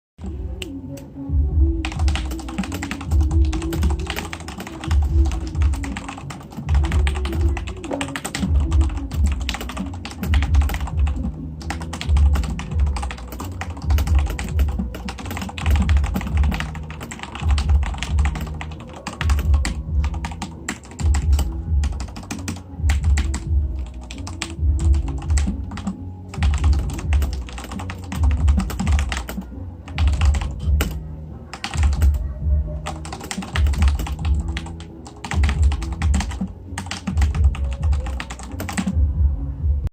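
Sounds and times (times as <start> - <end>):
fast mechanical keyboard typing: 1.8 - 32.2, 32.8 - 39.0.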